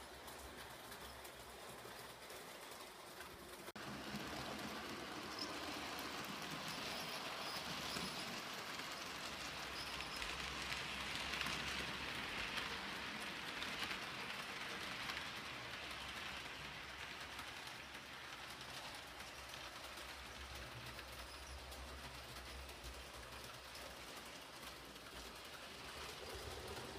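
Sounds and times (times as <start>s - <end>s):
model train whirring on track: 0.0s - 26.9s.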